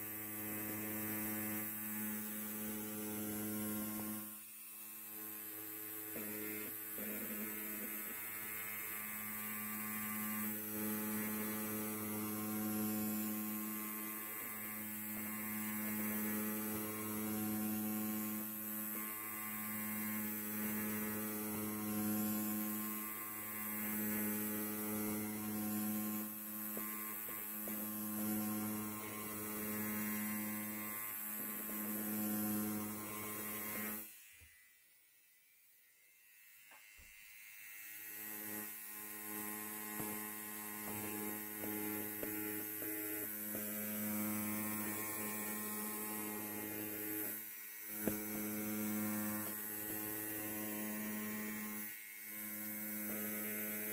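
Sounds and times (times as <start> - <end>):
electric hair clipper buzzing: 0.0 - 53.9.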